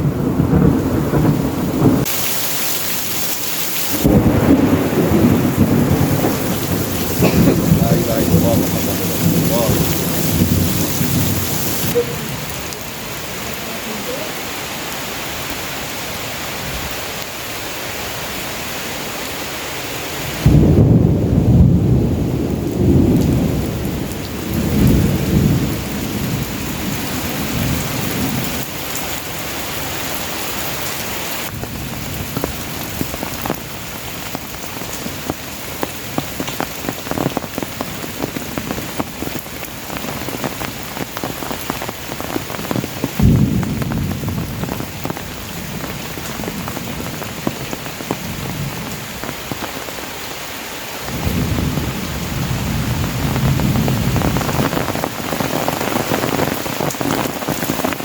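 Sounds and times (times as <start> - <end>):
thunder rolling: 0.0 - 14.8, 20.2 - 29.3, 31.4 - 49.6, 51.0 - 58.0
raindrops ticking close by: 0.0 - 17.7, 20.2 - 58.0
heavy rain falling: 0.0 - 58.0.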